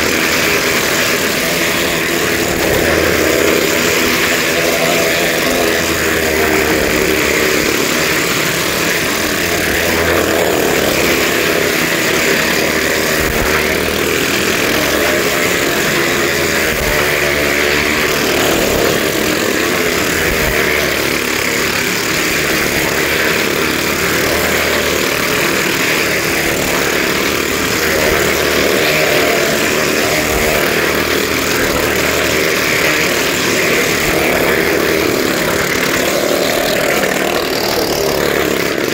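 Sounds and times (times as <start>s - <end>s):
motorcycle engines racing: 0.0s - 38.9s.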